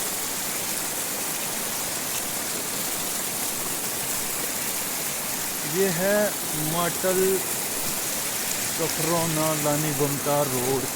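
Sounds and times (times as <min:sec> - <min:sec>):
heavy rain pouring: 0:00.0 - 0:10.9.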